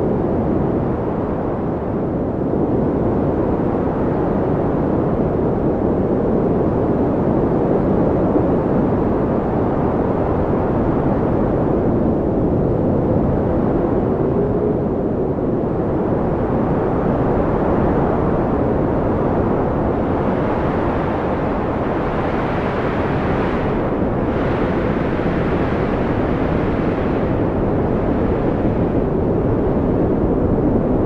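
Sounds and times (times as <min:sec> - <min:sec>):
blizzard wind rushing: 0:00.0 - 0:31.0
faint wind whistling: 0:00.0 - 0:31.0.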